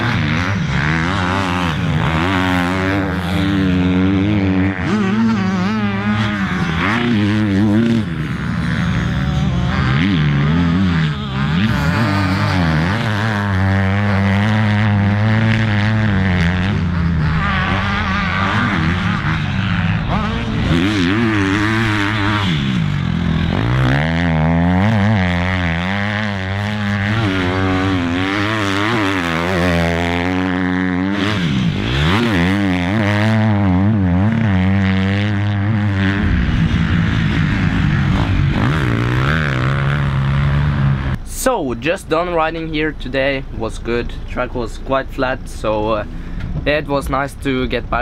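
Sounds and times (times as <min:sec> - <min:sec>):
engine drone: 0:00.0 - 0:48.0
motorbike engines revving: 0:00.0 - 0:48.0.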